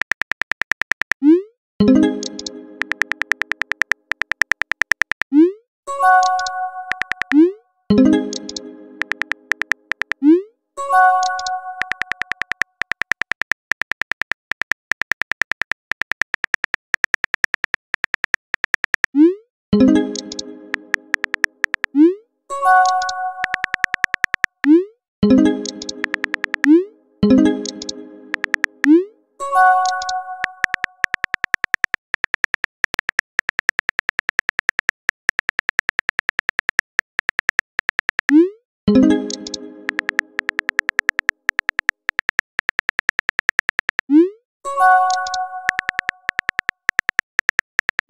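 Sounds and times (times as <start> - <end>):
keyboard key-click sound effect: 0.0 - 19.2, 19.8 - 22.0, 22.6 - 48.0.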